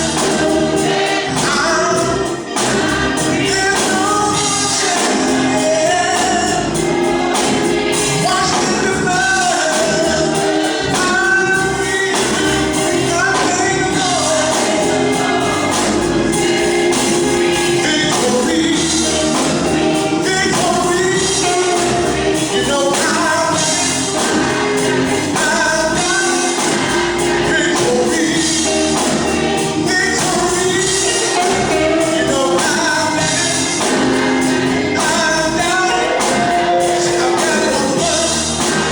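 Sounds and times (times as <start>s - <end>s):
gospel choir singing: 0.0s - 38.9s.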